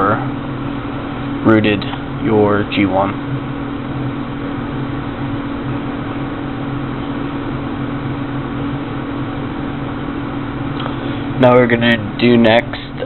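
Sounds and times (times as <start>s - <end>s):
low mechanical hum with hiss: 0.0s - 13.0s.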